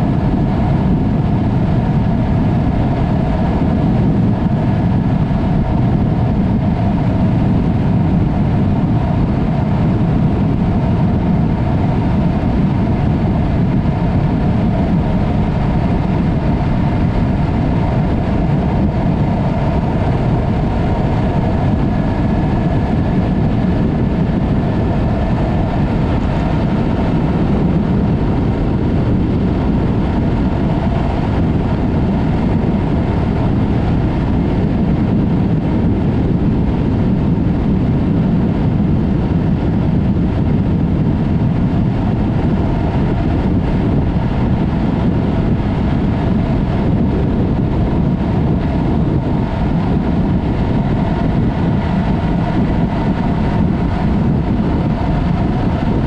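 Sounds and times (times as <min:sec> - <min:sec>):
motorcycle engine running: 0:00.0 - 0:56.0
wind noise rushing: 0:00.0 - 0:56.0.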